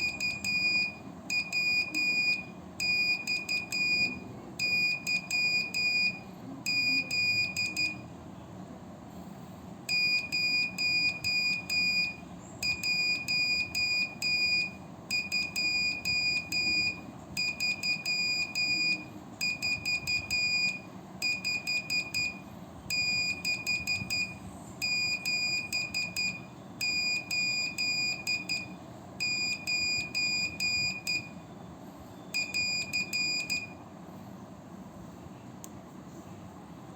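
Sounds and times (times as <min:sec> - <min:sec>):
morse code beeps: 0:00.0 - 0:08.0, 0:09.9 - 0:31.4, 0:32.3 - 0:33.8.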